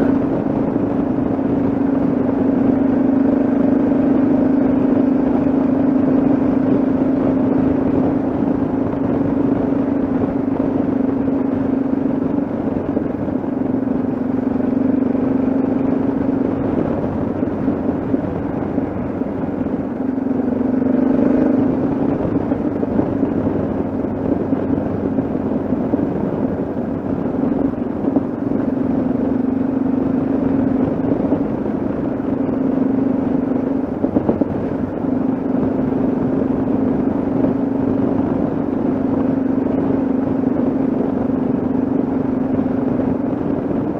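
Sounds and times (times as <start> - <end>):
motorcycle engine cruising: 0.0 - 43.9
road and wind noise: 0.0 - 43.9.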